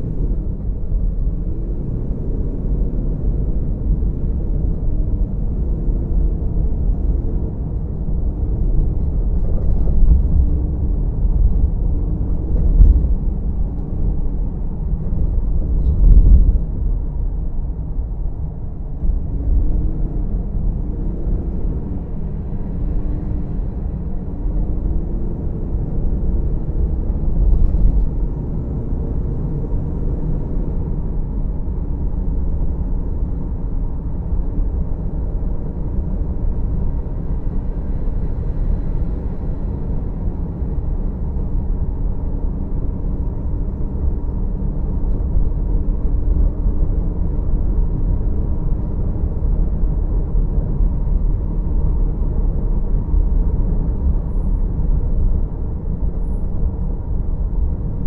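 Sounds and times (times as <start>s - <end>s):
car interior road noise: 0.0s - 58.0s
faint engine tone: 0.0s - 58.0s.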